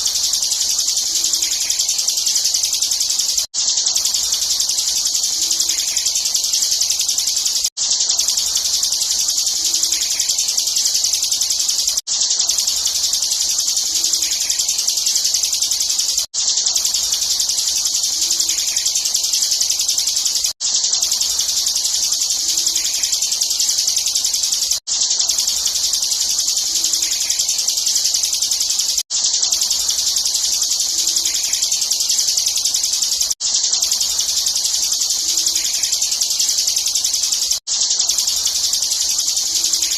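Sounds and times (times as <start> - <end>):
bird buzzing trill: 0.0 - 39.9.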